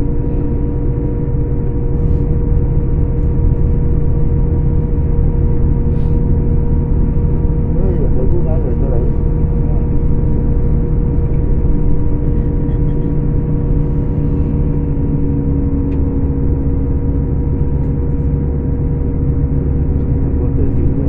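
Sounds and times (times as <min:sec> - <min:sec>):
diesel engine drone: 0:00.0 - 0:21.0
engine whine: 0:00.0 - 0:21.0.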